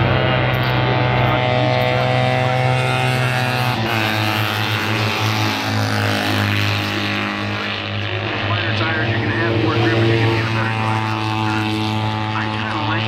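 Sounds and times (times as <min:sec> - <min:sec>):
racing sidecar engine droning: 0:00.0 - 0:13.0.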